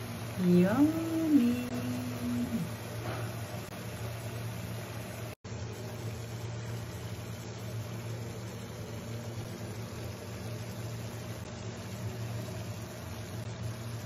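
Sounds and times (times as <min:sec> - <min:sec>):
low mechanical hum: 0:00.0 - 0:14.0
beef sizzling in a pan: 0:02.2 - 0:14.0.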